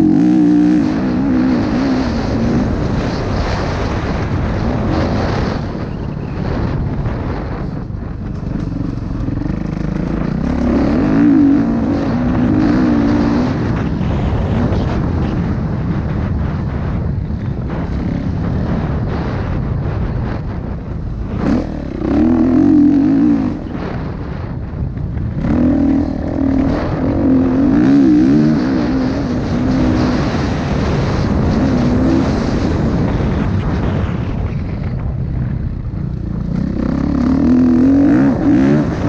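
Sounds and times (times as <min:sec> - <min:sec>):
dirt bike engine revving: 0:00.0 - 0:05.8, 0:06.4 - 0:33.9, 0:36.2 - 0:39.0
wind on microphone: 0:00.0 - 0:39.0.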